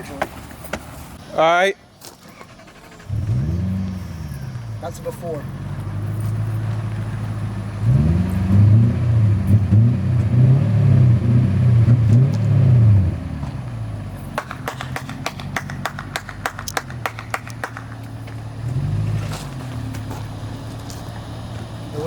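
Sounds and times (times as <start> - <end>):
car engine revving and idling: 2.3 - 22.0.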